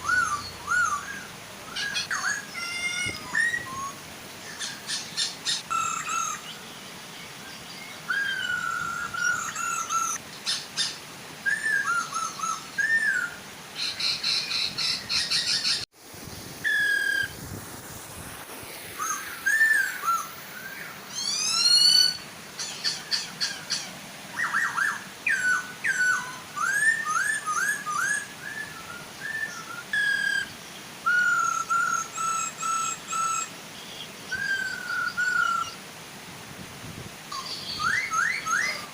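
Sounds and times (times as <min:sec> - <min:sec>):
birds whistling and trilling: 0:00.0 - 0:15.9, 0:16.6 - 0:17.4, 0:18.9 - 0:35.8, 0:37.3 - 0:38.9
gentle waterfall hiss: 0:00.0 - 0:38.9.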